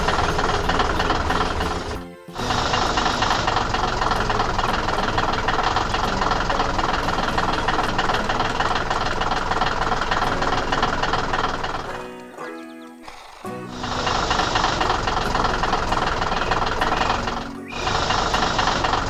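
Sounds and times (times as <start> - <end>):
heavy machine engine rattling: 0.0 - 12.0, 13.7 - 19.0.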